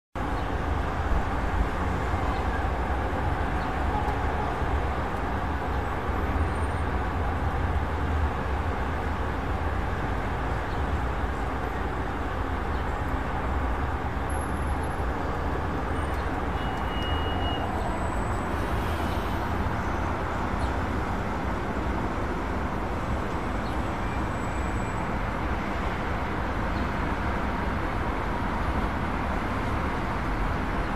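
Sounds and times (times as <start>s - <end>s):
road traffic rumble: 0.2s - 30.9s.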